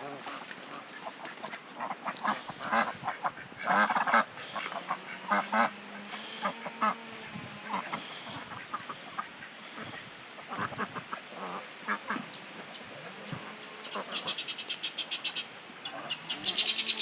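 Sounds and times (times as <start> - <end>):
ducks and geese calling: 0.0 - 17.0.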